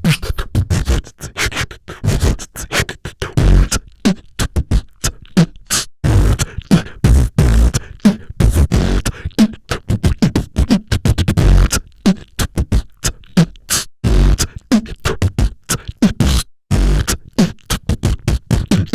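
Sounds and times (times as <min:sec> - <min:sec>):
person beatboxing: 0:00.0 - 0:18.9.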